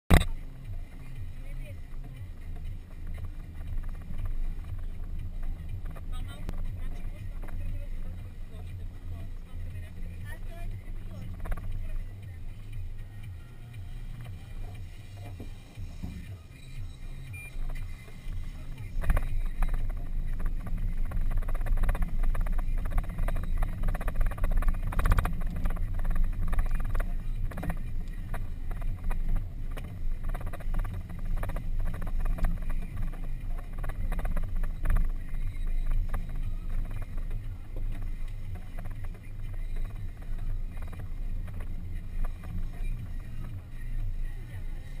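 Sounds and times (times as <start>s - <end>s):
low engine drone: 0.1s - 45.0s.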